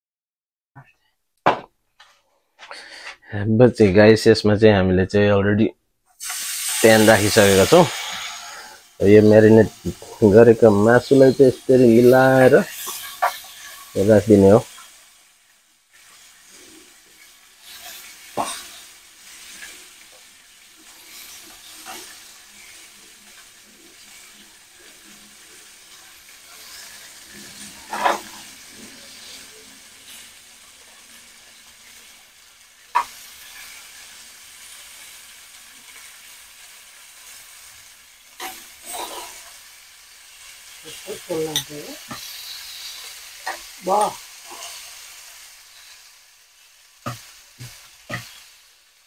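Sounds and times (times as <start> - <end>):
meat sizzling in a frying pan: 6.2 - 49.0.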